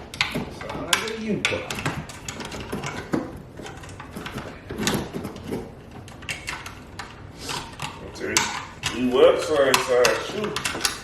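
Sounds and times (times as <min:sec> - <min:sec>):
tools clicking and knocking: 0:00.0 - 0:11.0.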